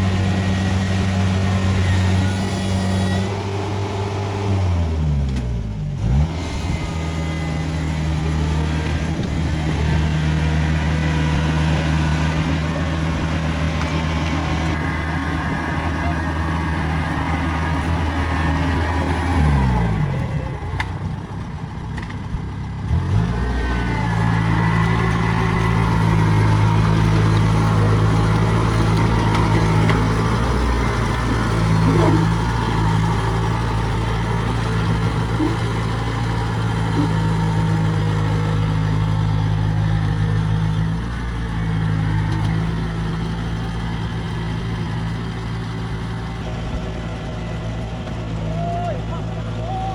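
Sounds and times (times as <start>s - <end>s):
diesel harvester engine running: 0.0s - 49.9s.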